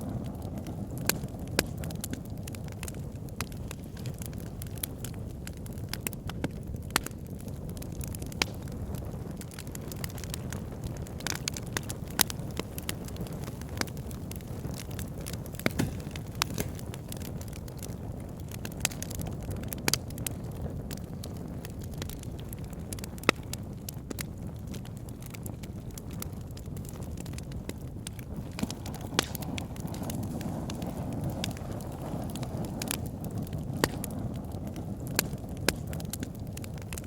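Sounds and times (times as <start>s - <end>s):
burning wood crackling and popping: 0.0s - 37.0s
low rumble of flames: 0.0s - 37.0s.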